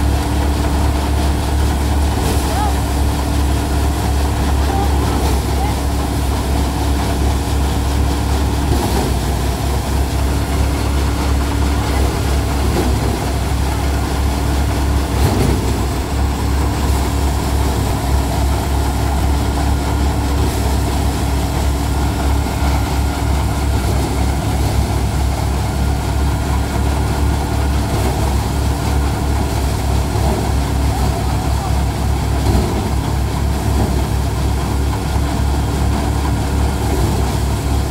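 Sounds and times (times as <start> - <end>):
thresher humming: 0.0 - 37.9
tractor engine rumbling: 0.0 - 37.9.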